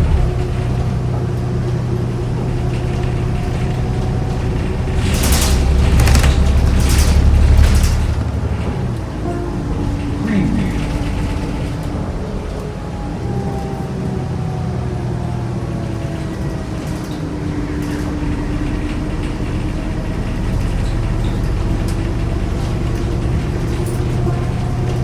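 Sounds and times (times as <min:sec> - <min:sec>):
bus engine drone: 0:00.0 - 0:25.0
drivetrain whine: 0:00.0 - 0:25.0.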